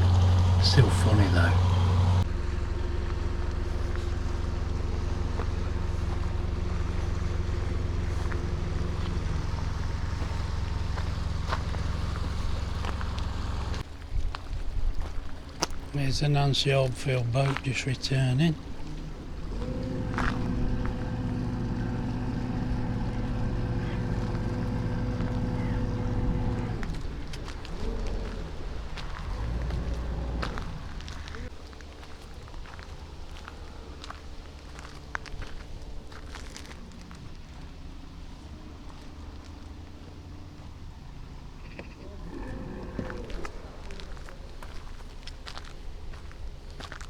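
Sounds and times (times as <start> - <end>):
motor boat engine passing: 0.0 - 47.0.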